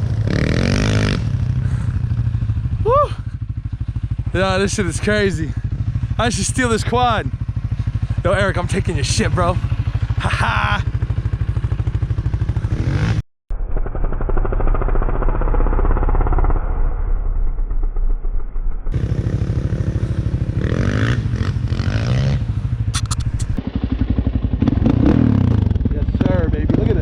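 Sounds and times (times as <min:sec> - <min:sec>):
quad bike engine running: 0:00.0 - 0:13.2, 0:13.8 - 0:16.7, 0:18.9 - 0:27.0.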